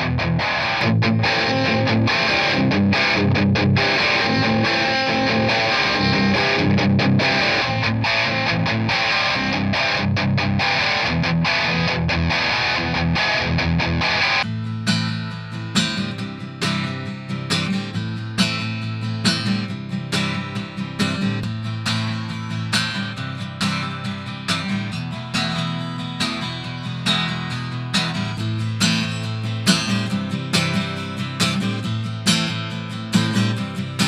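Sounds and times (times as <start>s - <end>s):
acoustic guitar strumming chords: 0.0s - 34.0s.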